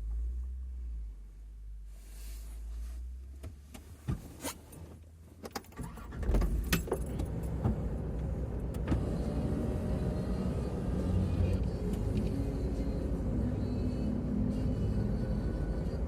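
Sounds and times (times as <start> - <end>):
vehicle running noise: 0.0 - 16.0.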